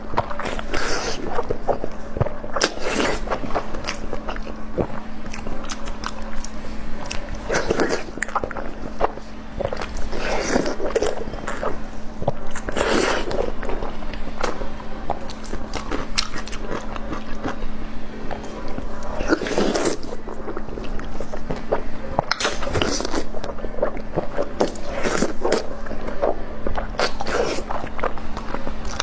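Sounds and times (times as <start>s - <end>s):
crunchy chewing: 0.0s - 29.0s
faint steady hum: 0.0s - 29.0s.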